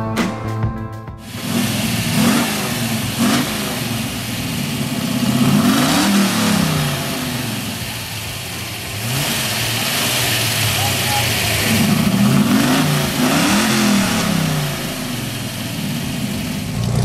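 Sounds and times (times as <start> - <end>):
car engine revving: 1.2 - 17.0.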